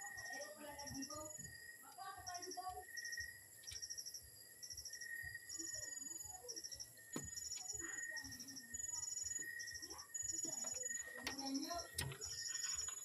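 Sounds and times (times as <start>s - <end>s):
faint high chirping trills: 0.0s - 13.0s.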